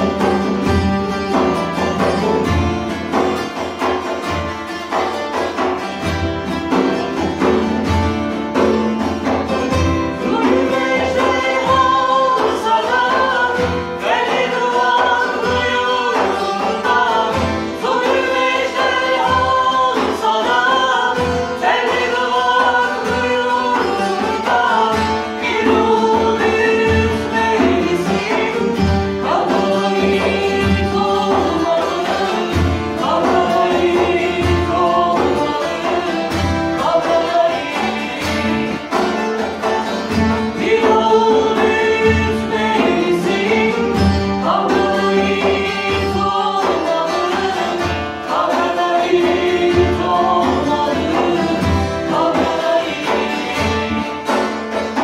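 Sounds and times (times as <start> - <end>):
mixed voices singing: 0.0 - 4.4, 6.7 - 55.0
acoustic guitar: 0.0 - 55.0
hand percussion thumping: 0.0 - 55.0
strummed lutes: 0.0 - 55.0.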